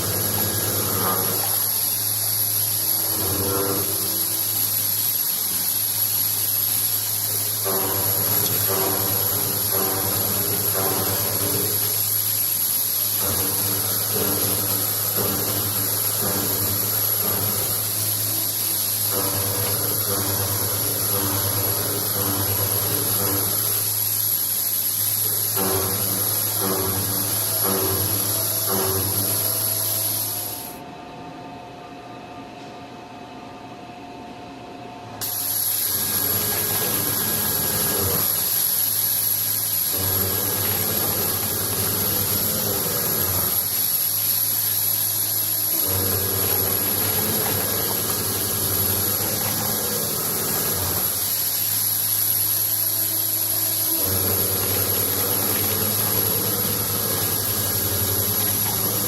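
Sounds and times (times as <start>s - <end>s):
machinery humming and hissing: 0.0s - 59.0s.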